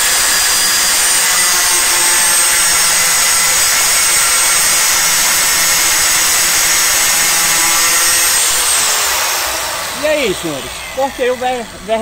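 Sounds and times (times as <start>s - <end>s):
saw grinding through steel: 0.0s - 12.0s.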